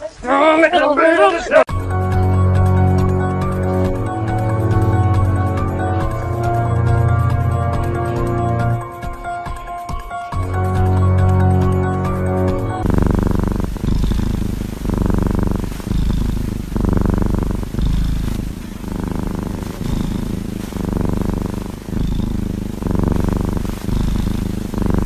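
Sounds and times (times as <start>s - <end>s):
kitten purring loudly: 1.7s - 25.0s.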